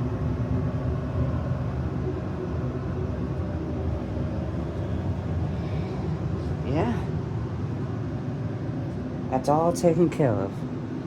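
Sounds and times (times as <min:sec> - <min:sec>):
furnace humming: 0:00.0 - 0:11.0.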